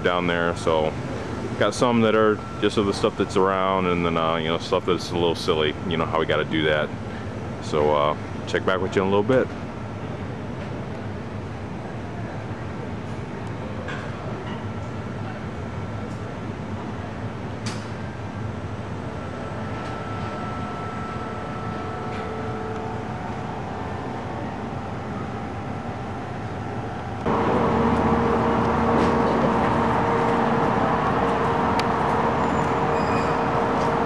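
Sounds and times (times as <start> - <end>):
mechanical hum: 0.0 - 34.0.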